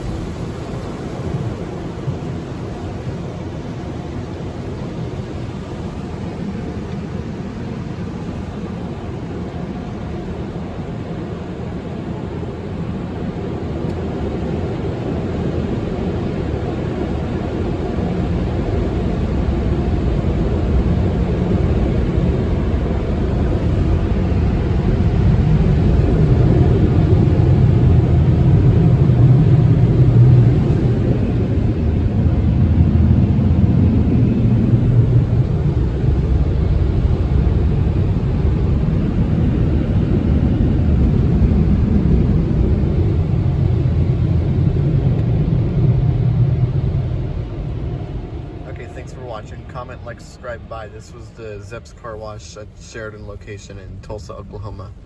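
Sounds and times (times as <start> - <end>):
car wash dryer blowers roaring: 0.0 - 55.0.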